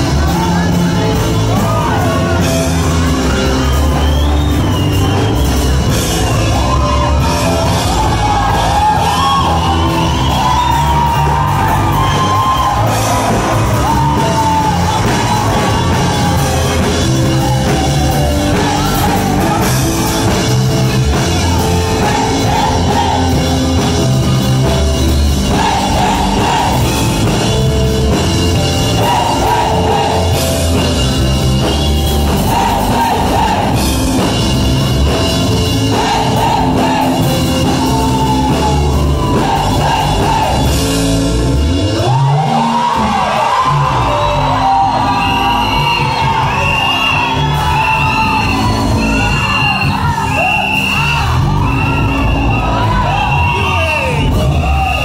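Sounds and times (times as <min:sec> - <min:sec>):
keyboard and electric guitar music: 0:00.0 - 0:55.0
people shouting: 0:06.2 - 0:41.1, 0:41.8 - 0:55.0.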